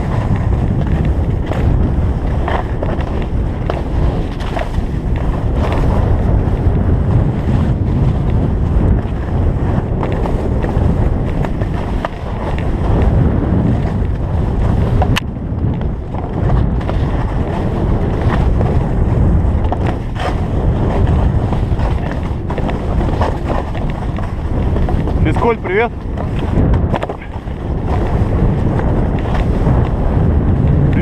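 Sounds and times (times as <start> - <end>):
skis sliding on snow: 0.0 - 31.0
wind rushing over microphone: 0.0 - 31.0.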